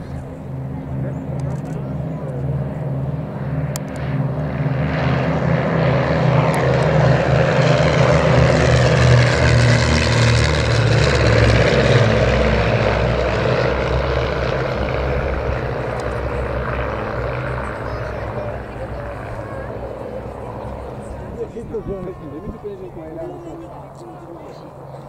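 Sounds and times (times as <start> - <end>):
propeller aircraft flying past: 0.0 - 25.0.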